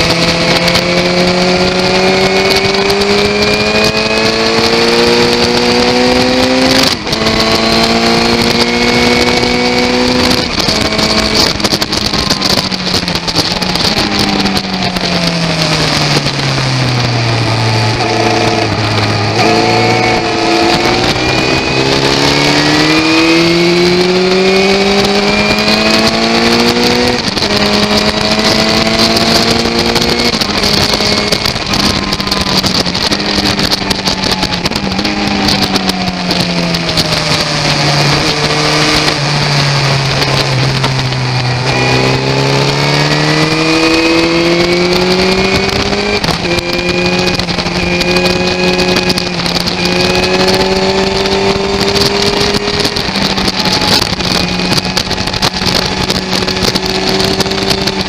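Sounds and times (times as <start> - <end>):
motorcycle engine revving: 0.0 - 58.0
wind noise on microphone: 0.0 - 58.0.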